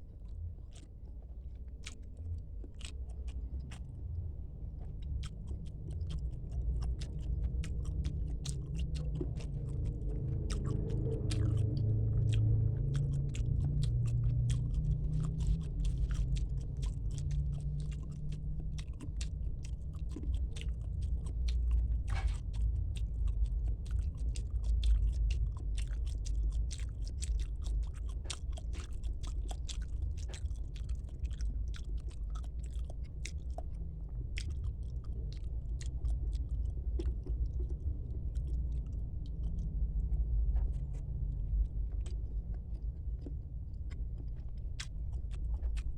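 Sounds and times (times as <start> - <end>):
close chewing with wet mouth clicks: 0.0 - 45.9
steady low rumble: 0.0 - 45.9.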